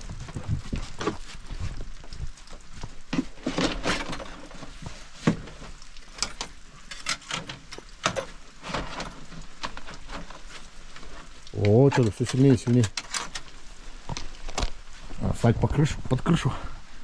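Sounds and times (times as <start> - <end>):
light rain hiss: 0.0 - 17.0.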